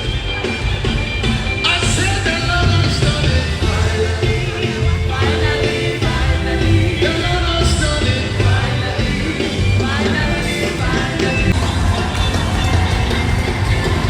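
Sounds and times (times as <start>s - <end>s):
heavy bass: 0.0s - 14.0s
upbeat music with singing: 0.0s - 14.0s.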